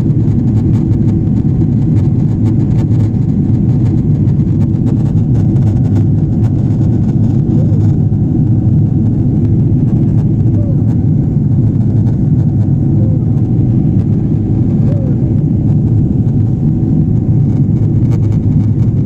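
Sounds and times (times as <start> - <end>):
jet engine rumble and airflow: 0.0 - 19.0.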